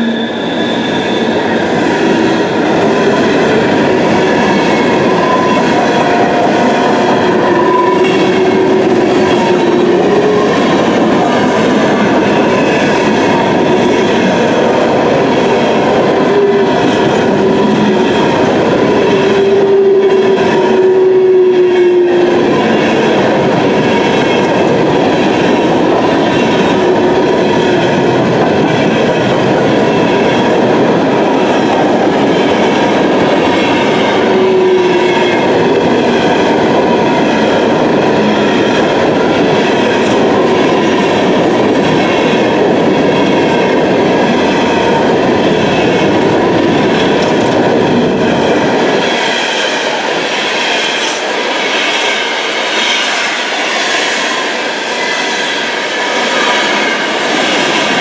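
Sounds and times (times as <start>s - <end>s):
train cars rolling past: 0.0s - 58.0s.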